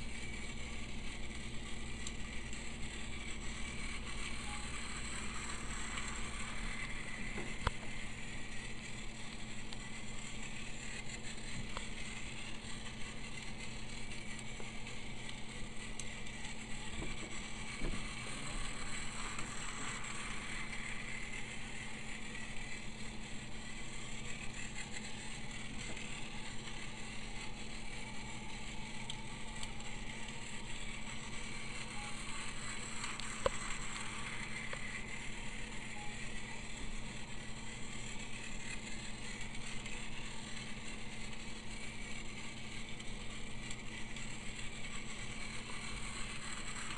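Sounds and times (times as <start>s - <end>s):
toy train motor whirring: 0.0s - 46.9s
toy train wheels rattling: 0.1s - 46.9s.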